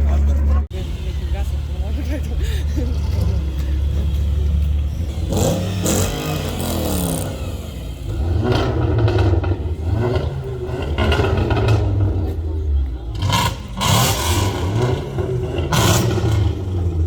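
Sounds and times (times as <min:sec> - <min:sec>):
car engines rumbling: 0:00.0 - 0:17.0
engine revving: 0:00.0 - 0:17.0.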